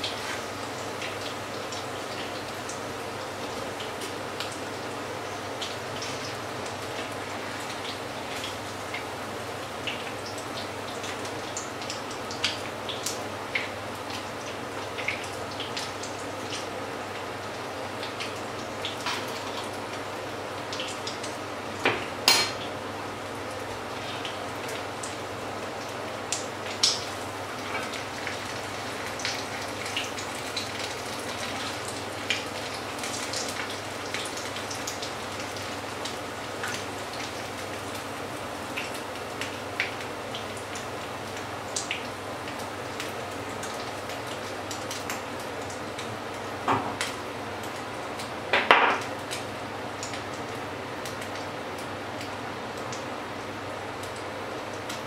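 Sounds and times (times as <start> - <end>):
fritters sizzling in oil: 0.0 - 55.0.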